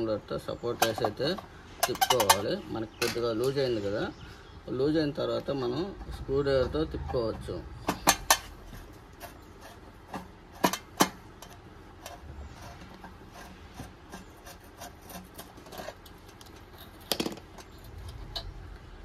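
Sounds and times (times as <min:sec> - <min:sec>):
faint metal scraping: 0:00.0 - 0:19.0
metal clatter: 0:00.7 - 0:03.5, 0:05.7 - 0:12.2, 0:12.8 - 0:19.0.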